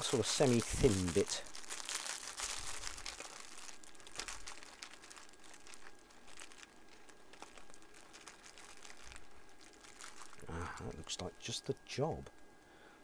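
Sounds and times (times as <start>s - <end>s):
plastic tubing crinkling: 0.0s - 11.9s.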